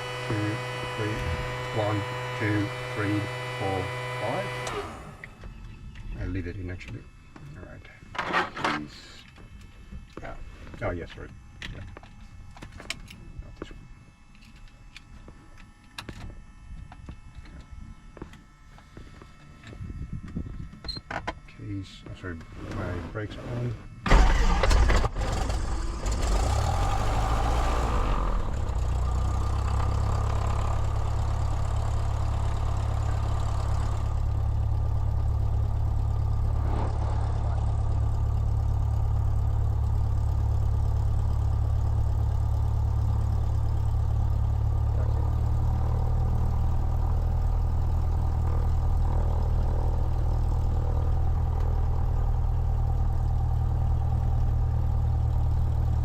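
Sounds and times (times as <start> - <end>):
propeller plane engine idling: 0.0 - 21.0, 21.6 - 56.0.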